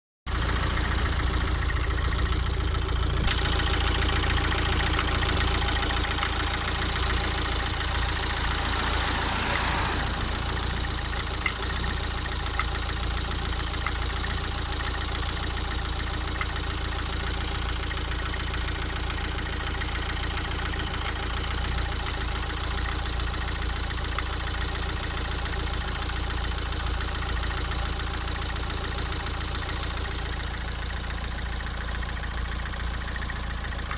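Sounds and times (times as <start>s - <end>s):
engine knocking taps: 0.3s - 9.5s, 10.2s - 33.9s
diesel engine idling: 0.3s - 33.9s.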